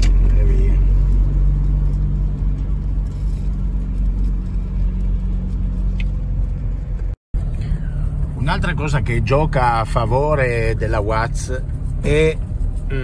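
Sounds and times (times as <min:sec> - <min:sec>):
van engine droning: 0:00.0 - 0:13.0.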